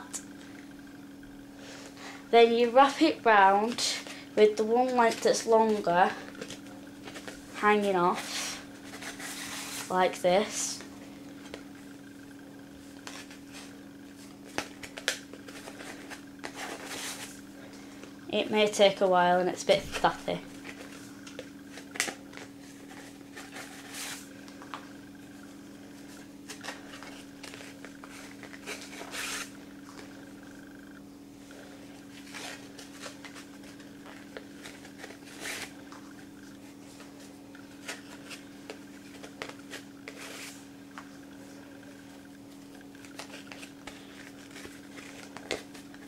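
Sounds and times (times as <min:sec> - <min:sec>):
steady low hum: 0:00.0 - 0:46.0
ribbon rustling against disc: 0:01.6 - 0:46.0.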